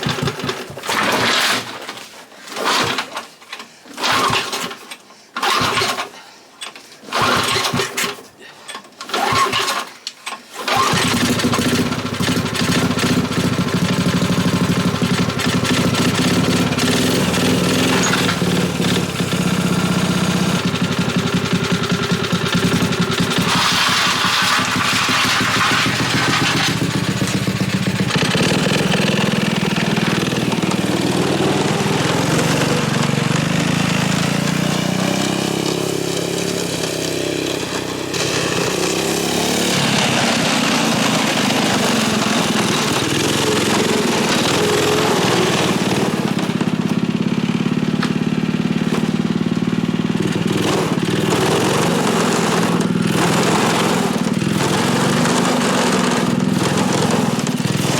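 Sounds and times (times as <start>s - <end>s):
small engine running: 4.0s - 4.8s, 5.4s - 6.1s, 7.1s - 8.1s, 9.1s - 9.9s, 10.6s - 57.9s.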